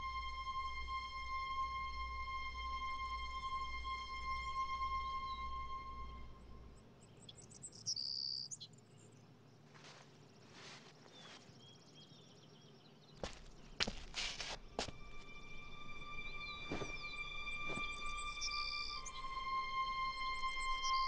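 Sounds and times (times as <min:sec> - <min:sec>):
soft sustained music: 0:00.0 - 0:07.8, 0:09.9 - 0:21.0.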